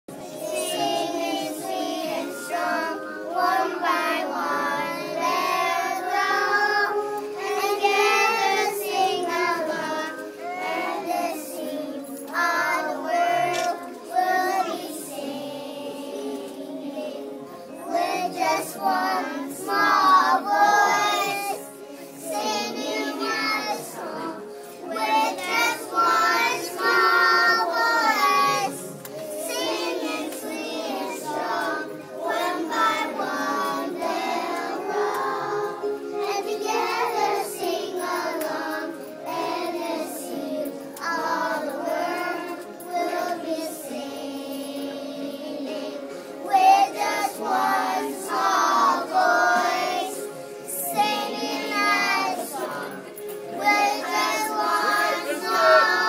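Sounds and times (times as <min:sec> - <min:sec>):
children singing: 0:00.1 - 0:56.0.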